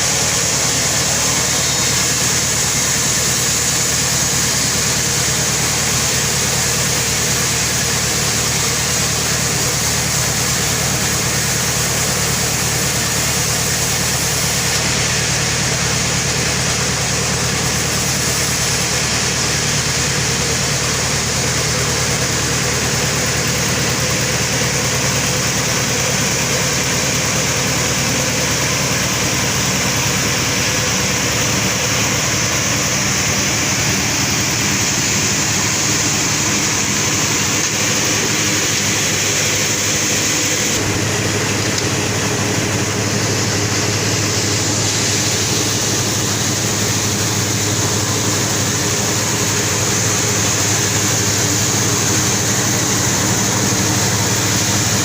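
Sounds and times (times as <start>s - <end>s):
sawmill machinery hum and hiss: 0.0s - 55.0s.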